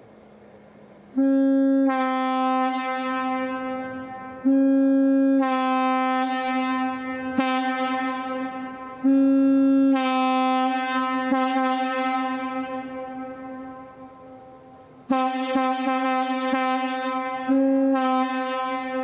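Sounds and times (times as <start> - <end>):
locomotive air horn blasts: 1.1 - 19.0.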